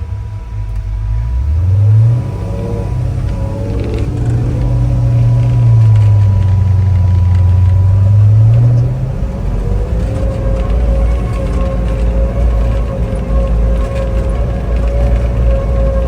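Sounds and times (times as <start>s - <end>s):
snowcat engine under load: 0.0s - 16.0s.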